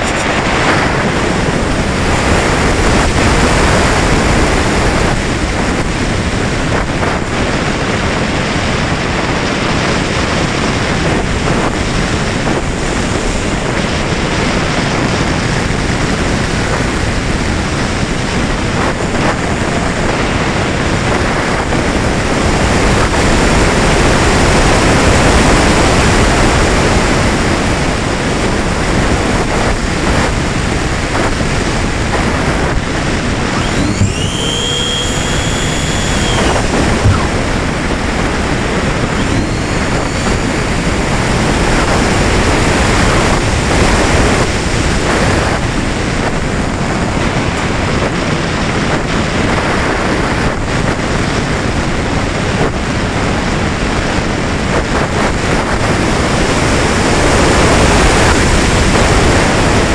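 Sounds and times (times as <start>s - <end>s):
wind rushing over camera: 0.0s - 59.9s.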